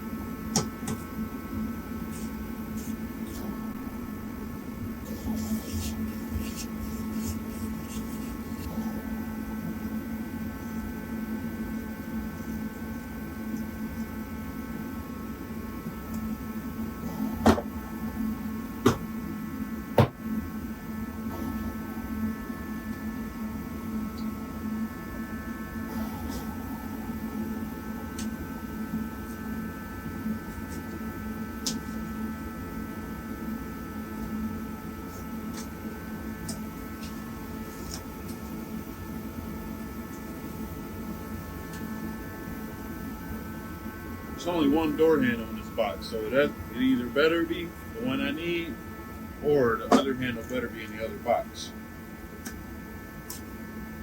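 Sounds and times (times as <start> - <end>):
heater humming: 0.0 - 54.0.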